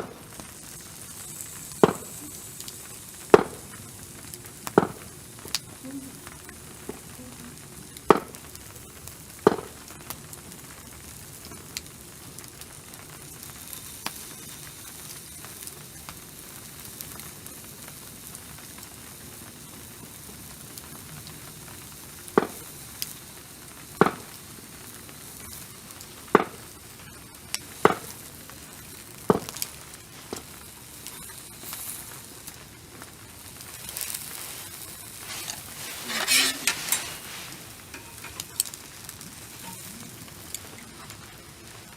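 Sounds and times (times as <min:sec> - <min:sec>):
food sizzling as it fries: 0:00.0 - 0:41.9.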